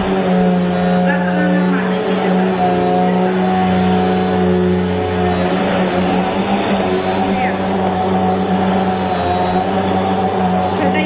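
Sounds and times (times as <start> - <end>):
high whine: 0.0 - 11.0
vacuum cleaner motor hum: 0.0 - 11.0.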